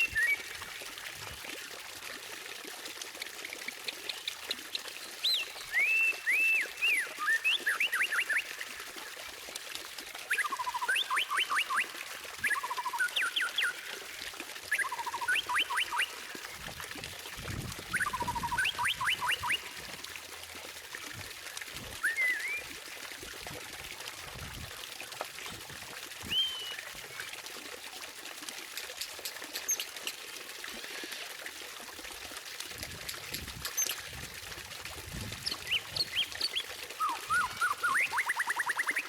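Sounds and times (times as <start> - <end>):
running water trickling: 0.0 - 39.0.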